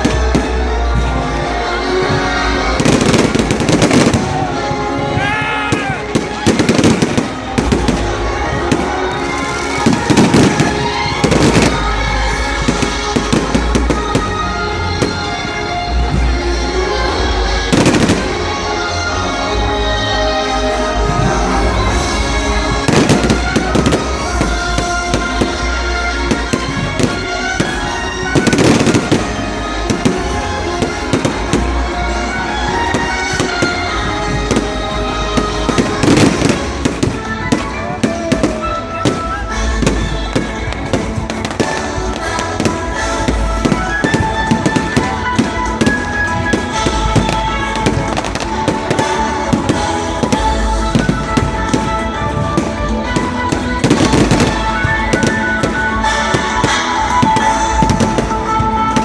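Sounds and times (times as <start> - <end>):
music with held notes: 0.0 - 59.0
firecrackers cracking: 2.6 - 15.6, 17.7 - 18.6, 21.2 - 59.0.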